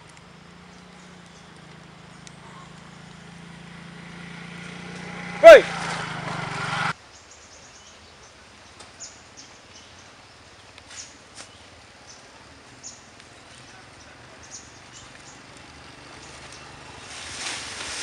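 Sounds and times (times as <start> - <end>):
small birds chirping: 0.0 - 4.8, 7.0 - 17.5.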